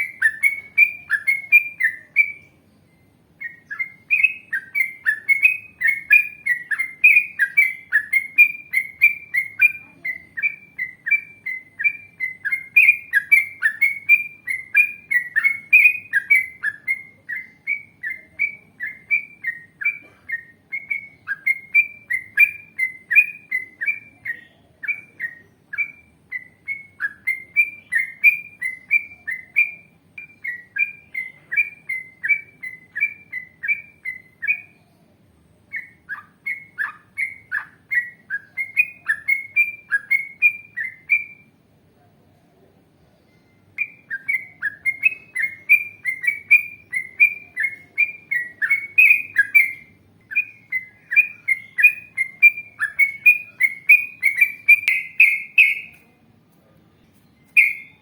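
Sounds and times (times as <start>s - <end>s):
bulbul singing chattering notes: 0.0s - 34.8s, 43.4s - 56.1s, 57.1s - 58.0s.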